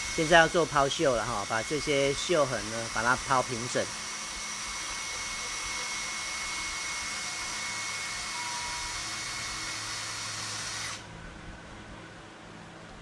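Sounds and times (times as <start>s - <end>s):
rotary grinder whining: 0.0s - 11.1s.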